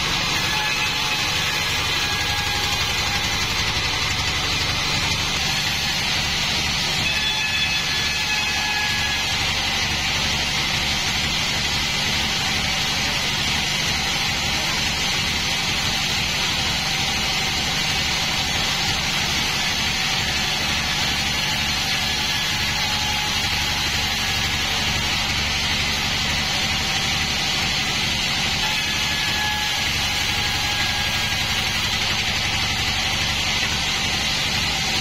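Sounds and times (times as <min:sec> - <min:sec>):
saw blade cutting log: 0:00.0 - 0:35.0.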